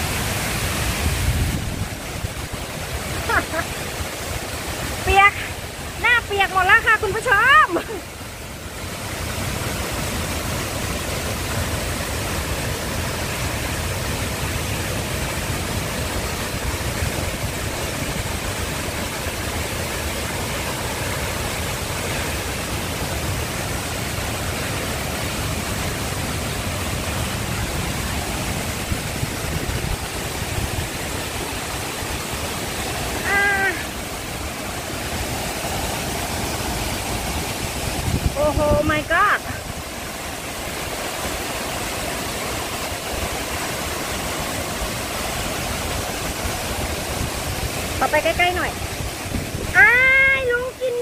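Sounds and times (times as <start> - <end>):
waterfall rushing onto rocks: 0.0 - 51.0.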